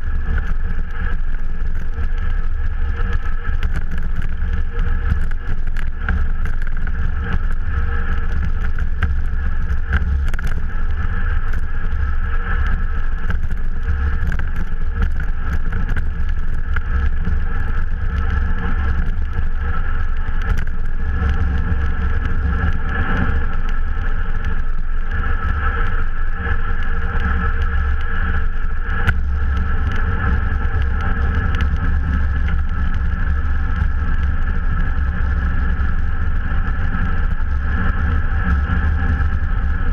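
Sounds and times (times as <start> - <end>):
bicycle tyre noise on asphalt: 0.0 - 39.9
wind buffeting microphone: 0.0 - 39.9.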